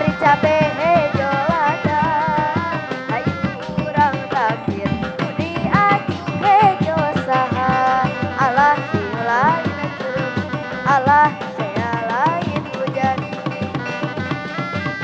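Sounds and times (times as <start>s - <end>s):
drums beating quick rhythm: 0.0s - 15.0s.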